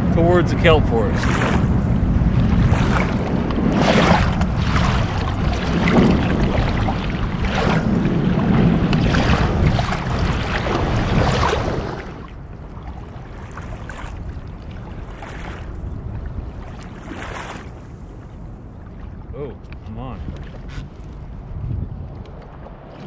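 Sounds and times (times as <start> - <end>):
water washing against hull: 0.0 - 23.0
wind buffeting microphone: 0.0 - 23.0.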